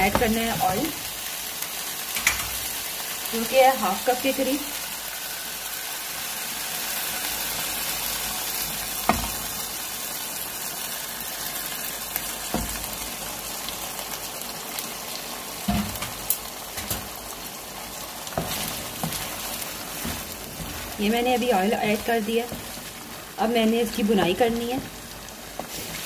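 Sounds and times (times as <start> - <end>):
meat sizzling in a wok: 0.0 - 26.0.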